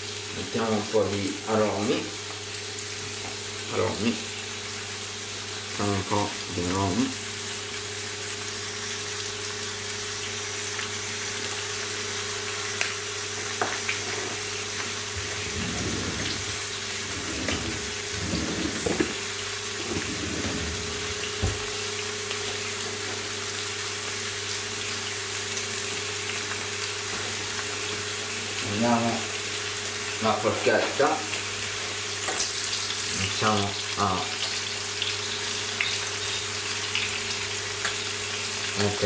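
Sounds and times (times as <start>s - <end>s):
patties sizzling in pan: 0.0s - 20.1s, 21.0s - 39.0s.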